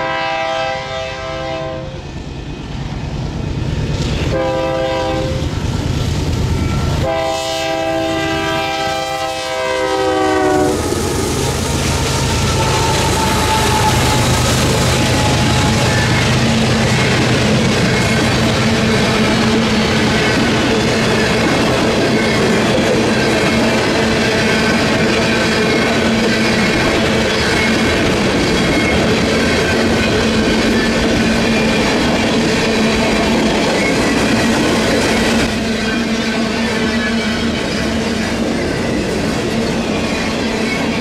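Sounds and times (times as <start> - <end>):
train wheels clattering on rails: 8.2 - 41.0.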